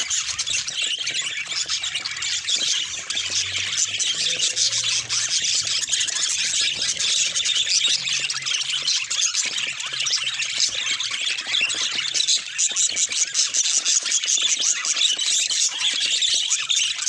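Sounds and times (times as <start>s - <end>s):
flock of budgerigars chattering: 0.0s - 17.0s.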